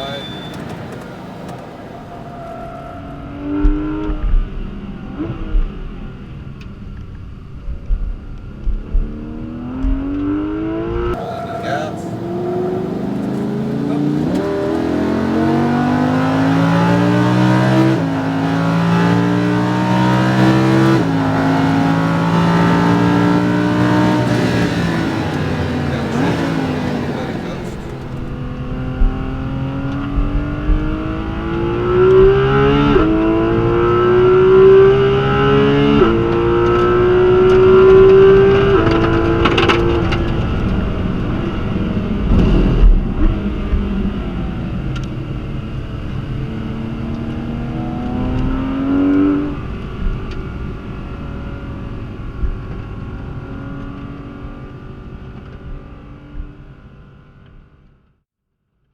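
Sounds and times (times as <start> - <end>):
sports car engine accelerating: 0.0 - 58.1.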